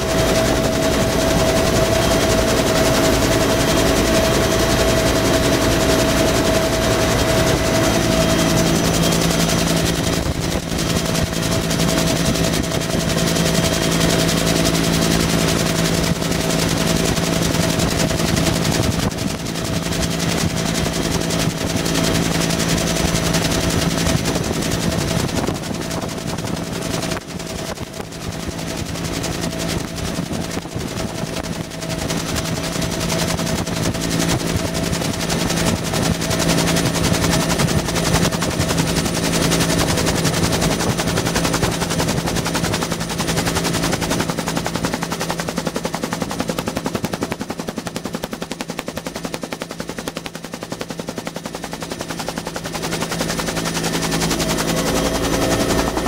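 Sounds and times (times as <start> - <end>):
helicopter rotor chop: 0.0 - 56.0
helicopter turbine whine: 0.0 - 56.0.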